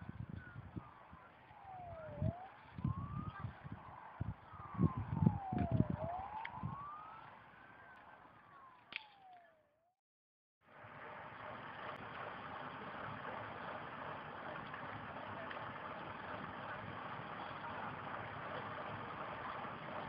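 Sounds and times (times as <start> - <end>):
fire engine siren wailing: 0.0 - 9.7, 10.8 - 20.0.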